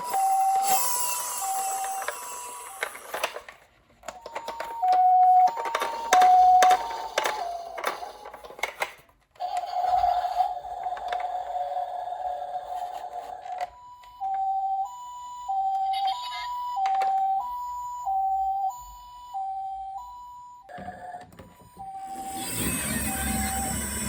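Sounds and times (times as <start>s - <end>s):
toy siren two-tone call: 0.0s - 3.5s, 4.1s - 8.6s, 9.4s - 24.0s.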